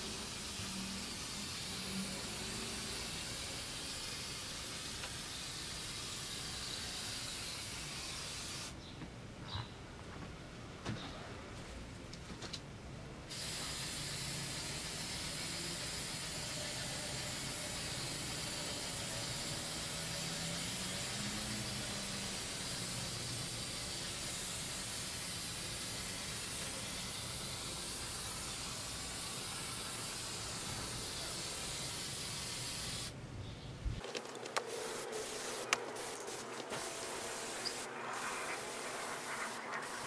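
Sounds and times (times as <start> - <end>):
spray paint can hissing: 0.0 - 8.8, 13.3 - 33.2, 34.0 - 40.0.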